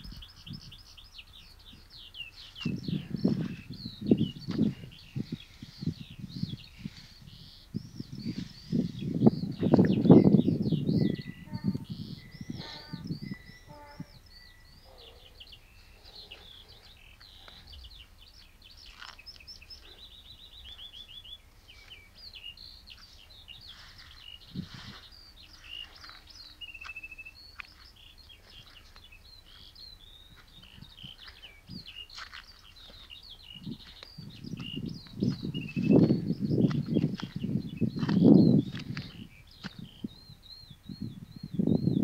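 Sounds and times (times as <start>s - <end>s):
songbirds singing and chirping: 0.0s - 42.0s.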